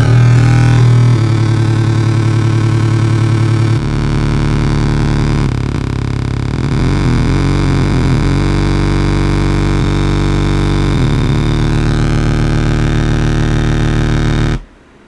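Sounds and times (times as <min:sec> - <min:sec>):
harsh electronic buzzing drone: 0:00.0 - 0:14.8.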